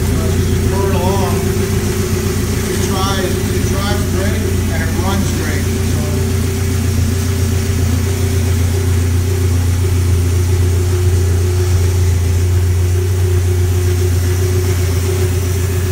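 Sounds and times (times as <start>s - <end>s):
dune buggy engine idling: 0.0s - 15.9s.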